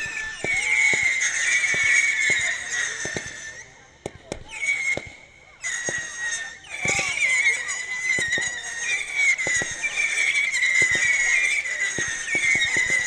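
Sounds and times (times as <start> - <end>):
firework cracks and bangs: 0.0 - 13.0
whistling fireworks: 0.0 - 13.0.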